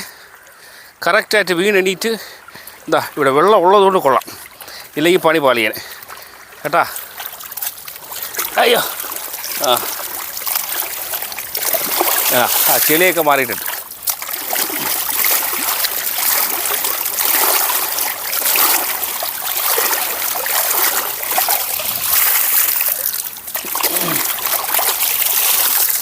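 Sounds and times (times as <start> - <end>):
stream water trickling and splashing: 0.0 - 26.0.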